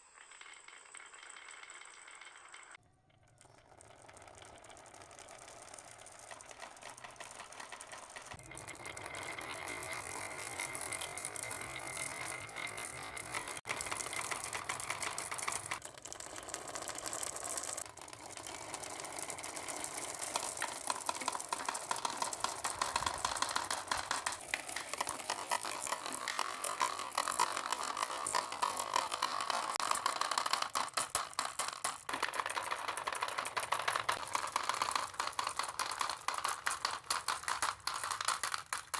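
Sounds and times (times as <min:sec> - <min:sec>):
marbles rolling and clicking: 0:00.0 - 0:38.9.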